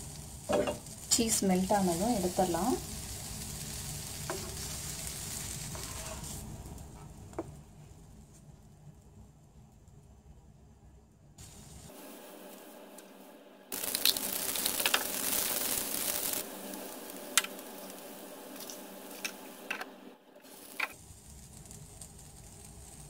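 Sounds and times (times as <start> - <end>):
dosa sizzling on a pan: 0.0 - 9.9, 11.4 - 19.8, 20.4 - 23.0.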